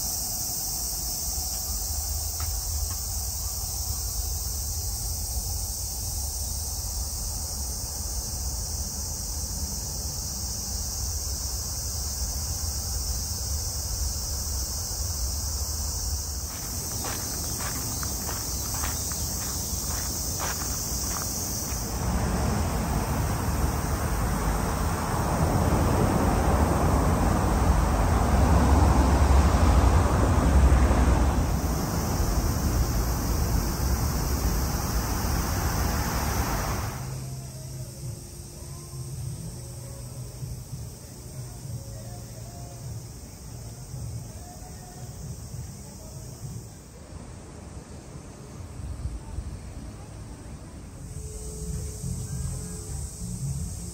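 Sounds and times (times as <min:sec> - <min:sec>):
high-pitched insect chorus: 0:00.0 - 0:53.9
low rush of outdoor noise: 0:00.0 - 0:53.9.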